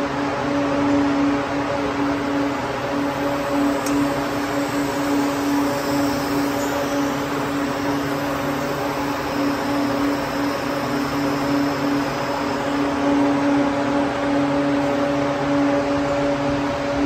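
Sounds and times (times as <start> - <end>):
production line machinery humming: 0.0 - 17.0.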